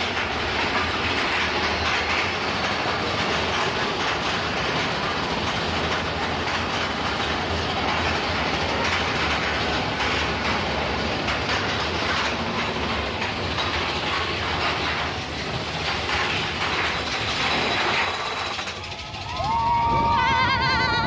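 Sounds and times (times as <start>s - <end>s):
roller coaster rattling on track: 0.0s - 21.0s.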